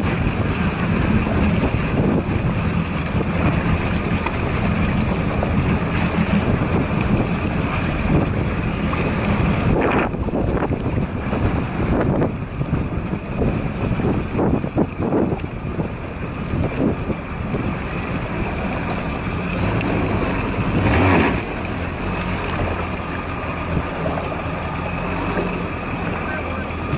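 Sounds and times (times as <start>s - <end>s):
water sloshing against hull: 0.0s - 26.9s
watercraft engine running: 0.0s - 26.9s
wind on microphone: 0.0s - 26.9s.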